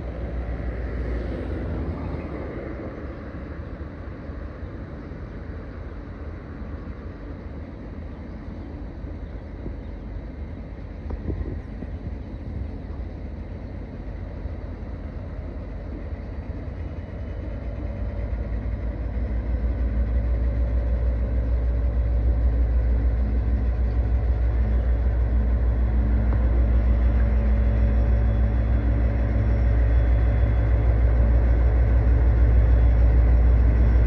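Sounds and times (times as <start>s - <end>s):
diesel locomotive engines rumbling: 0.0s - 34.0s.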